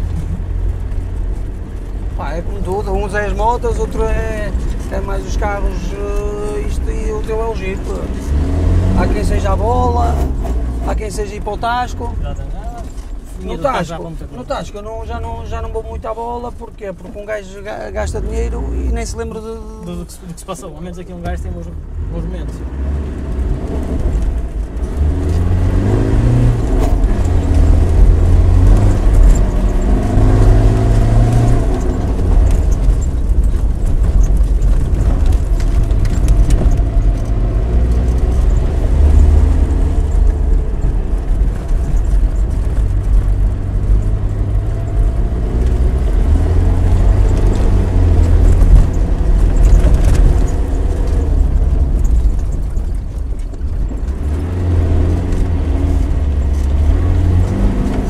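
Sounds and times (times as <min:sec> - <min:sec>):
diesel engine rumble inside cabin: 0:00.0 - 0:13.7, 0:23.1 - 0:58.0.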